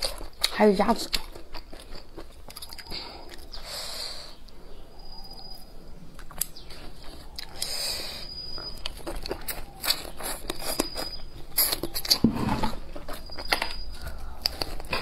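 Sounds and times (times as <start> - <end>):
wet chewing mouth sounds: 0.0 - 4.6, 5.2 - 15.0.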